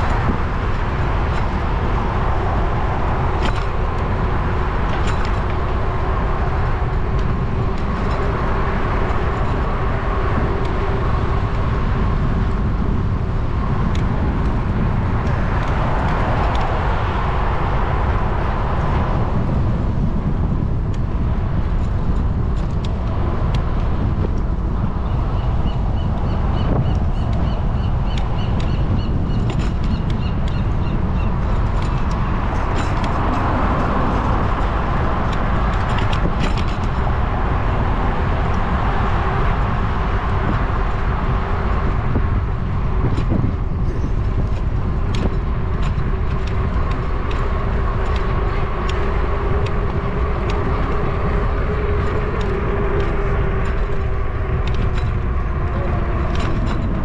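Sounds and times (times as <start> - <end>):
car traffic: 0.0 - 57.0
wind and road noise: 0.0 - 57.0.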